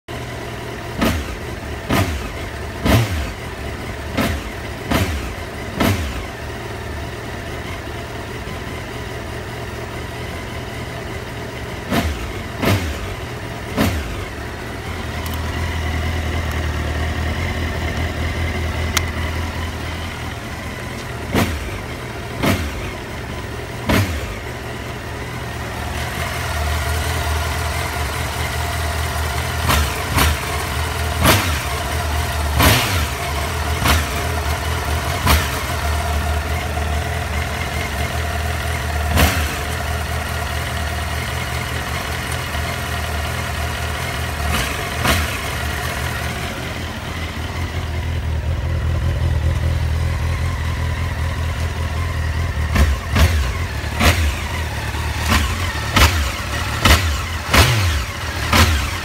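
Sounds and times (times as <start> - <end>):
motorcycle engine idling: 0.0 - 59.0
engine throttle blips: 11.6 - 59.0.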